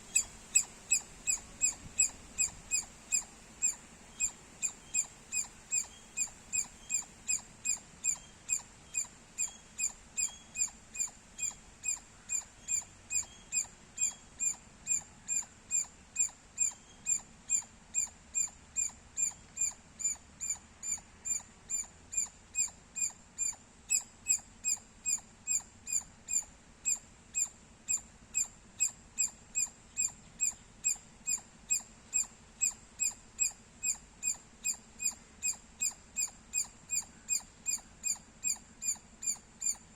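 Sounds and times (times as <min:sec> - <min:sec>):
squirrel chirping: 0:00.0 - 0:39.9.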